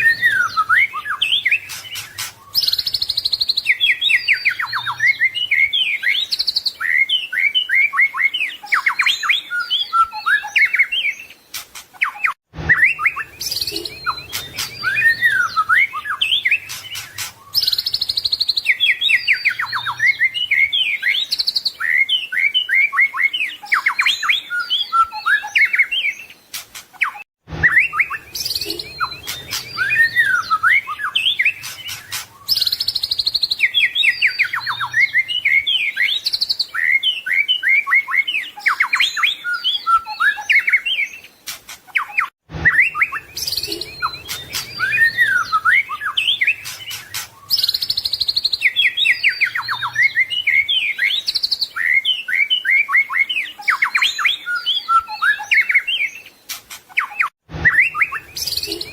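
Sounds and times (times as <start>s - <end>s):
bird singing whistles and trills: 0.0s - 58.9s.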